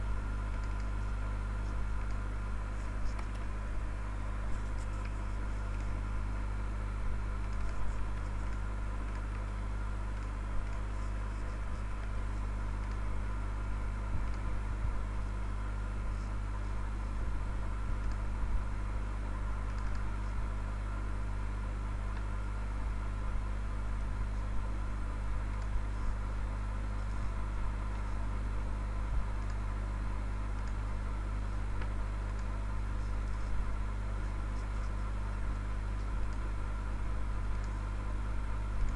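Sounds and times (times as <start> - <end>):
low hum with hiss: 0.0 - 38.9.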